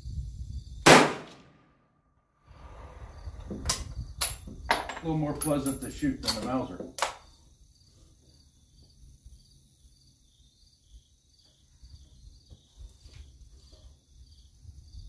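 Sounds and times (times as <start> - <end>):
insects chirping: 0.0 - 0.8, 2.5 - 15.0.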